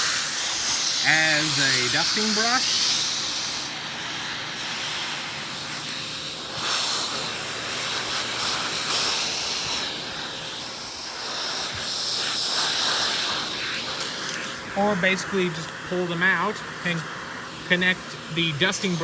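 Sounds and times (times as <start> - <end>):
air hissing through hose: 0.0 - 19.0
vacuum cleaner running: 0.0 - 19.0.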